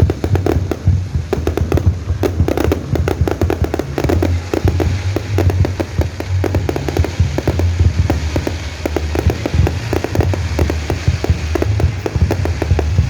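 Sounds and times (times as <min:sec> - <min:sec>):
fireworks bangs and crackles: 0:00.0 - 0:13.0
low rumble of booms: 0:00.0 - 0:13.0.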